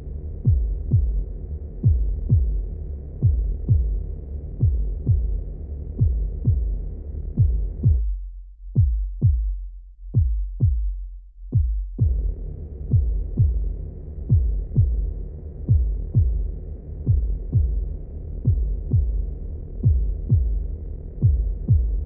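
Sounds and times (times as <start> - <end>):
heartbeat thumps: 0.4 - 22.0.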